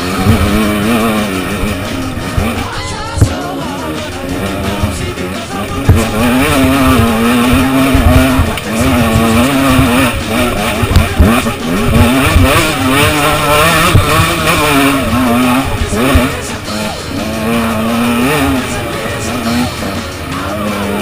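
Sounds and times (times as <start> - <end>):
two-stroke engine revving: 0.0 - 21.0.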